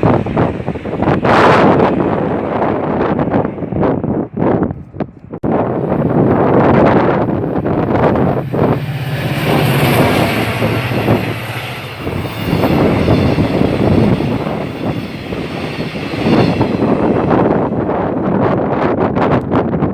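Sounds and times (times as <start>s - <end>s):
low hum: 0.0s - 18.4s
train passing on track: 0.0s - 19.9s
wind buffeting microphone: 0.0s - 19.9s.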